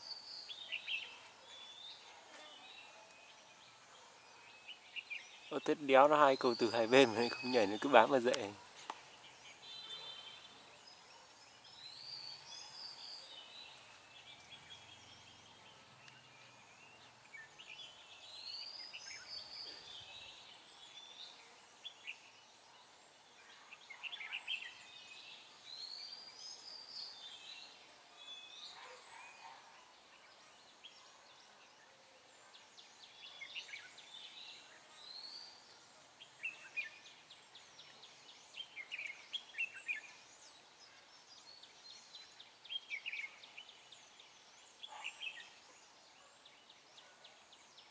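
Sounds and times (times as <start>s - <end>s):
birds chattering: 0.0s - 27.8s, 32.5s - 47.9s.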